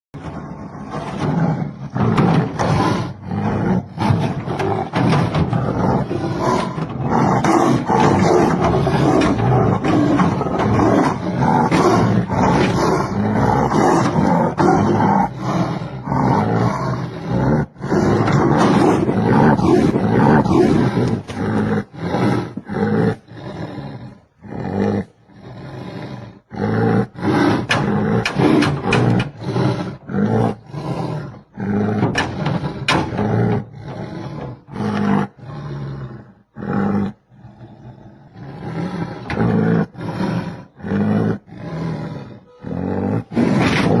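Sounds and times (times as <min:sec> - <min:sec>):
tiger roaring and growling: 0:00.2 - 0:44.0.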